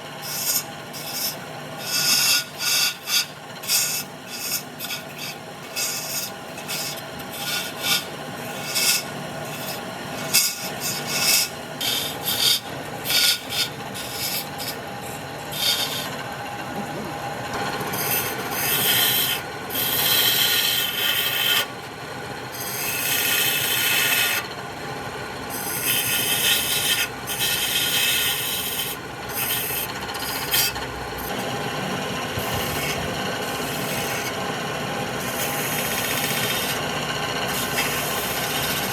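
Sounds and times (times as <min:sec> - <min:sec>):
lathe tool rasping on wood: 0:00.0 - 0:38.9.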